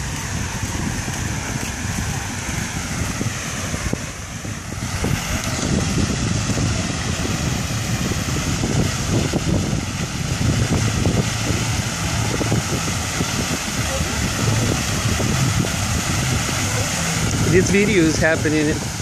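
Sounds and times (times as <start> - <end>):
fountain water splashing: 0.0 - 19.0
wind rumbling on microphone: 0.0 - 19.0.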